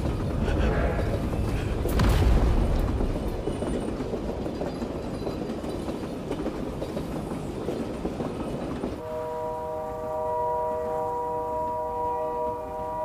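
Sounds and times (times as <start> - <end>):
train wheels rattling on track: 0.0 - 13.0.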